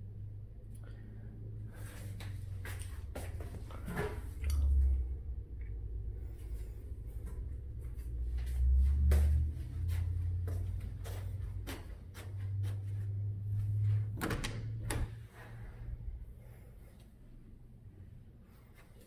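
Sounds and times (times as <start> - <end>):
low rumble: 0.0 - 18.8.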